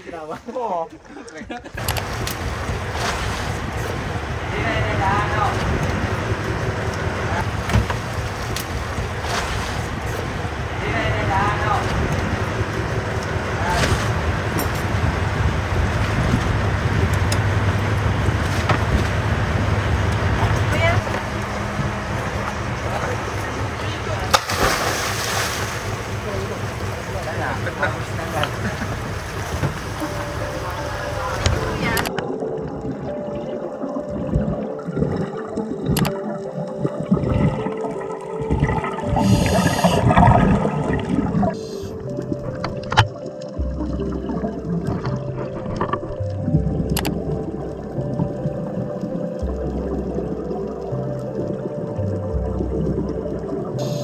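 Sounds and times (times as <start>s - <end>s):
boat engine droning: 1.8s - 54.0s
steady hum: 1.8s - 54.0s
exhaled bubbles gurgling underwater: 2.4s - 54.0s.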